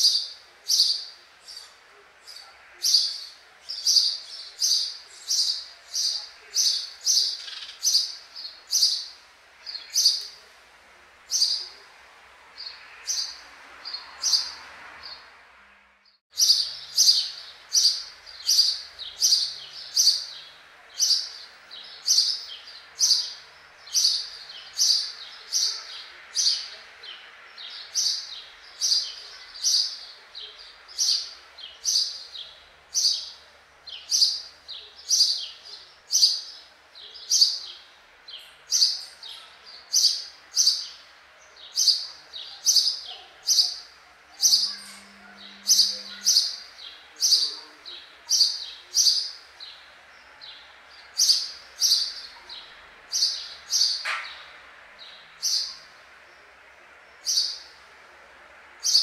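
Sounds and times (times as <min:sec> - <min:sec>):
sparrow chirping: 0:00.0 - 0:10.5, 0:11.3 - 0:11.9, 0:12.6 - 0:15.3, 0:16.3 - 0:59.0
faint steady hiss: 0:00.0 - 0:59.0.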